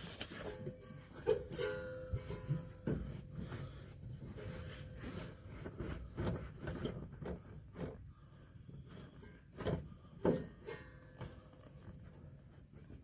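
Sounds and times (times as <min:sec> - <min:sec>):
tools knocking and rustling: 0:00.0 - 0:08.1, 0:09.0 - 0:12.0.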